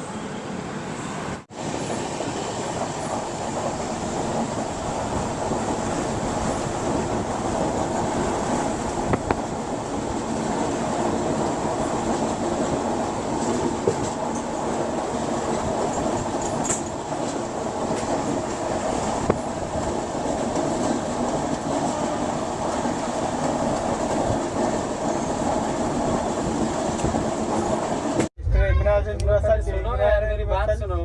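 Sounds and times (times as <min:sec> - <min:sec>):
train wheels rumbling on rail: 0:01.4 - 0:28.3.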